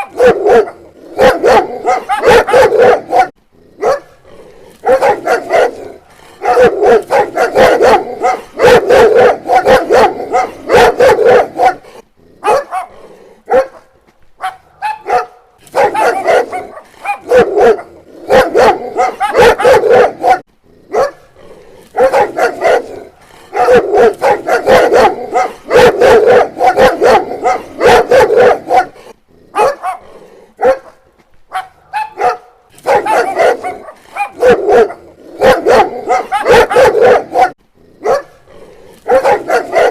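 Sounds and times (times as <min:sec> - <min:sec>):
dog barking rapidly: 0:00.0 - 0:04.2, 0:04.8 - 0:21.3, 0:22.0 - 0:38.4, 0:39.0 - 0:39.9.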